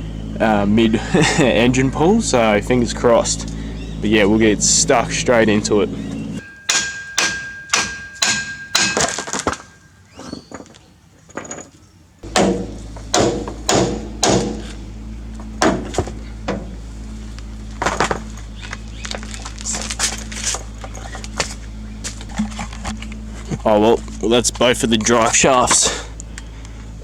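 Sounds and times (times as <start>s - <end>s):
steady low hum: 0.0s - 9.0s, 12.2s - 27.0s.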